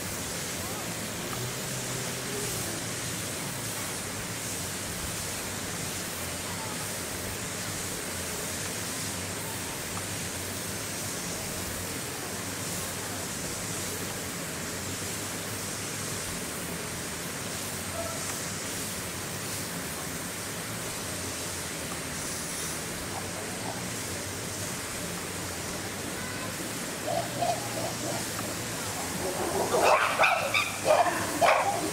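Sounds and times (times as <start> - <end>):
outdoor background hiss: 0.0 - 31.9.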